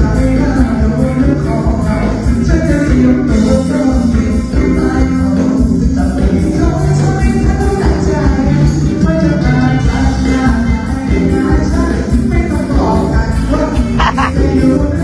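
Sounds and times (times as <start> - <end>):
live band music: 0.0 - 15.0
person singing through a pa: 0.0 - 15.0.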